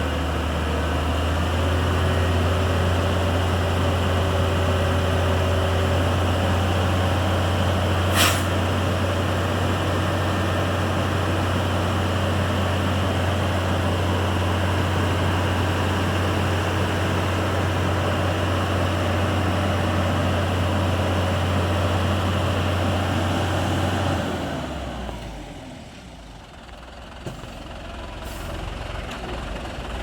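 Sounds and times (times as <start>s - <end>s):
diesel truck engine: 0.0s - 30.0s.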